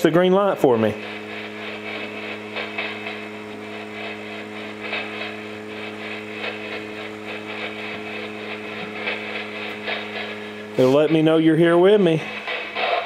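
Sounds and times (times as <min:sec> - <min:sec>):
low hum: 0:00.0 - 0:13.0
faint crackling: 0:00.8 - 0:13.0.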